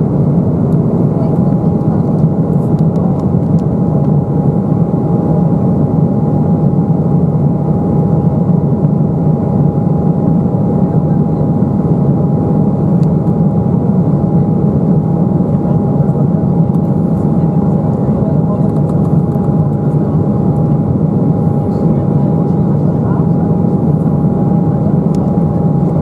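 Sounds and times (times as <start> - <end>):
airliner cabin engine rush: 0.0 - 26.0.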